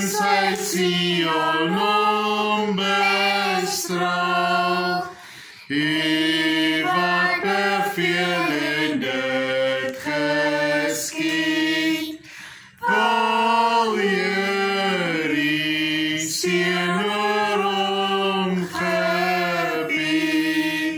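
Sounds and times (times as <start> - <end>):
family singing a hymn: 0.0 - 20.9.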